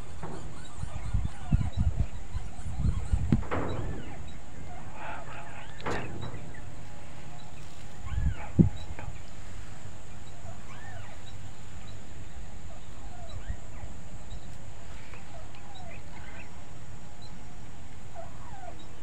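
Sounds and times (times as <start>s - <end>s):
birds chirping: 0.0s - 19.0s
steady high hiss: 0.0s - 19.0s.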